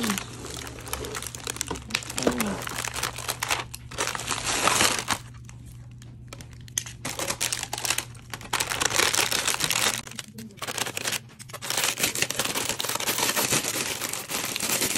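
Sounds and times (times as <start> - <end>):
packaging crinkling: 0.0 - 14.9.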